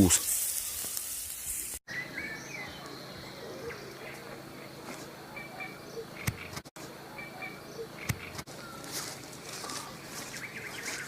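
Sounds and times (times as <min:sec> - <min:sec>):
bird chirping: 0:01.9 - 0:11.0.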